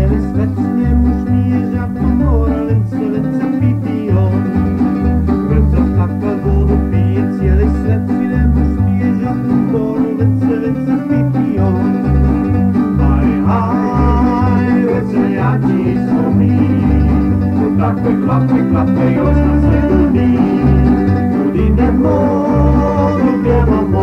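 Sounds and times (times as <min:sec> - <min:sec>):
plucked-string band playing folk: 0:00.0 - 0:24.0.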